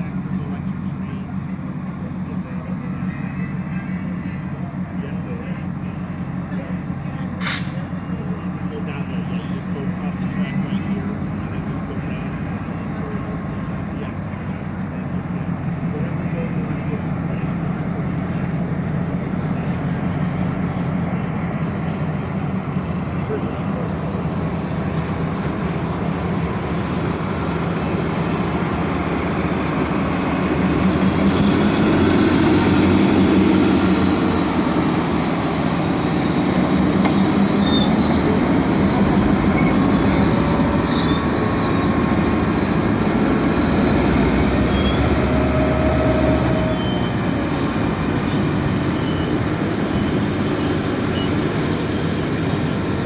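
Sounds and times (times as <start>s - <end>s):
brakes squealing: 0.0s - 53.0s
train wheels rumbling: 0.0s - 53.0s.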